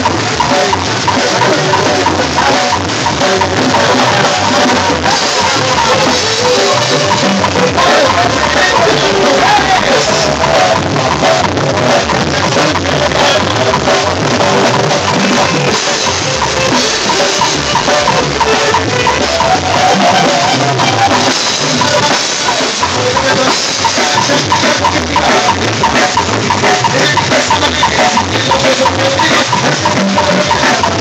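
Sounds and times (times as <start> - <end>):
drum kit beat: 0.0 - 31.0
electronic keyboard: 0.0 - 31.0
live band music: 0.0 - 31.0.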